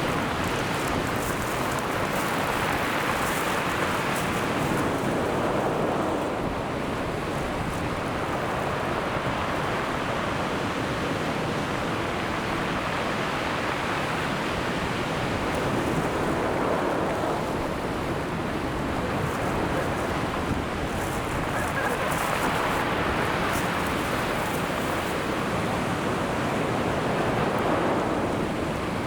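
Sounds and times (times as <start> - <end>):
surf washing on shore: 0.0 - 29.0.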